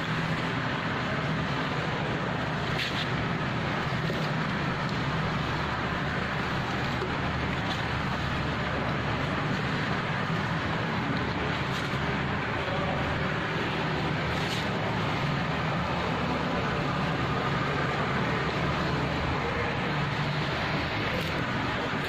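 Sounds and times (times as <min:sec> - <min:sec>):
motorboat engine running: 0:00.0 - 0:22.0
rushing water noise: 0:00.0 - 0:22.0.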